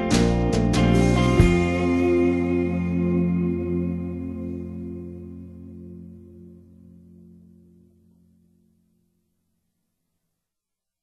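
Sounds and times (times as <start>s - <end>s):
background music held notes: 0.0s - 9.0s.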